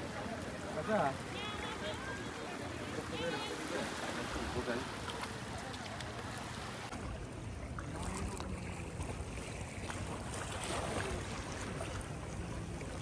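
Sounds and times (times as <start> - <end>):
small waves lapping: 0.0 - 13.0.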